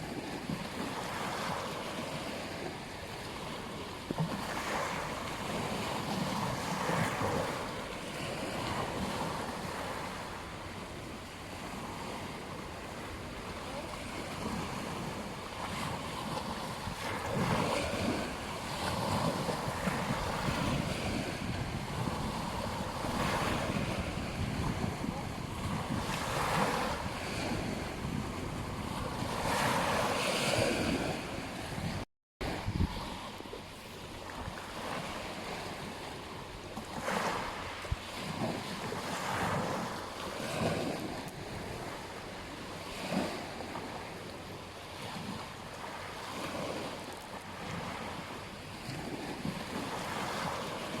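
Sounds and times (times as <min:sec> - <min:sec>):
ocean surf breaking on beach: 0:00.0 - 0:51.0.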